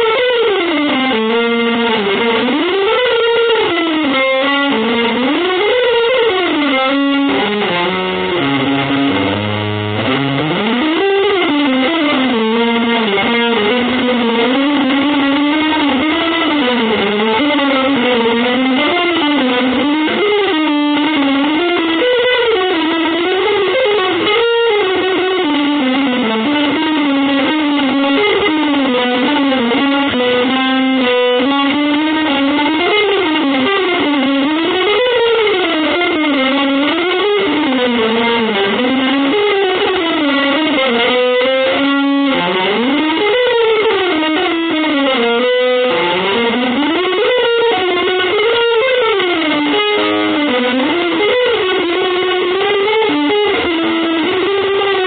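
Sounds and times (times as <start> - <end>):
electric guitar with effects: 0.0 - 55.0.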